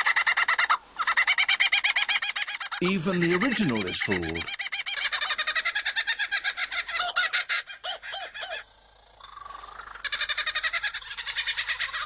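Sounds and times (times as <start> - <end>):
kookaburra laughing call: 0.0 - 8.6, 9.8 - 12.0.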